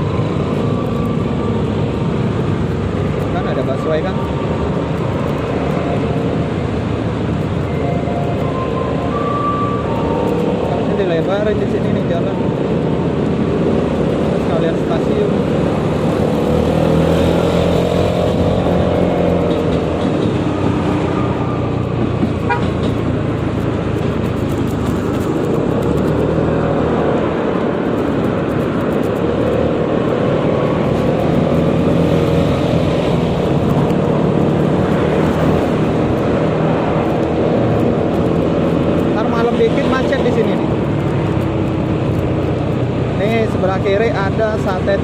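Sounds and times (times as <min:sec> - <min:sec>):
surrounding traffic: 0:00.0 - 0:45.0
wind and road noise: 0:00.0 - 0:45.0.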